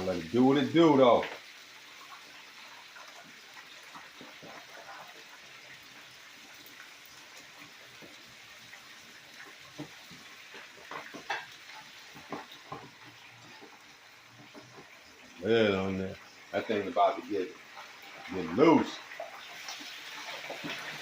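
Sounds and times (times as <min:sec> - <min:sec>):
chicken frying in grease: 0:00.0 - 0:21.0
grease popping: 0:00.0 - 0:21.0.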